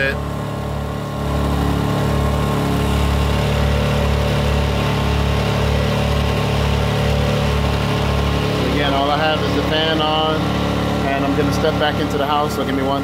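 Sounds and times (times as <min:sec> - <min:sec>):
portable generator running: 0:00.0 - 0:13.0.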